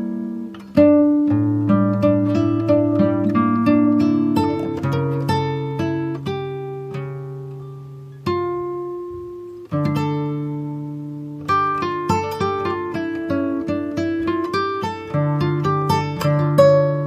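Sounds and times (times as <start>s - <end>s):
guitar notes and chords: 0.0s - 17.0s.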